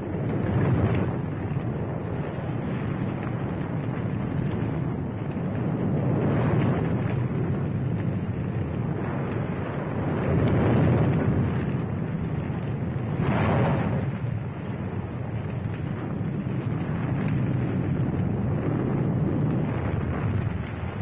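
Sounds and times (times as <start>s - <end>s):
distant battle rumble: 0.0s - 21.0s.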